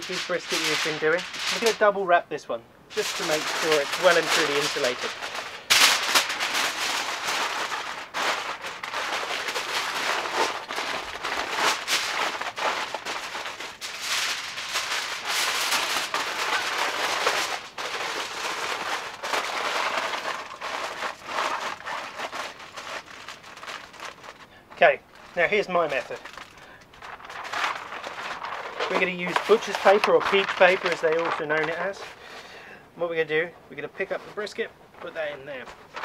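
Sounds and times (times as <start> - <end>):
aluminium foil crinkling: 0.0 - 2.0, 2.9 - 32.5, 33.3 - 36.0.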